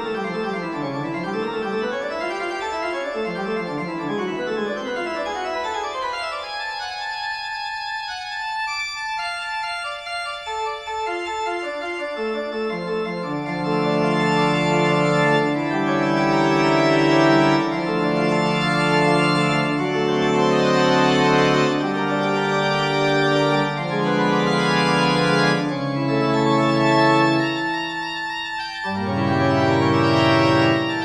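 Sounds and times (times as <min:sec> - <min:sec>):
organ-like keyboard chords: 0:00.0 - 0:31.0.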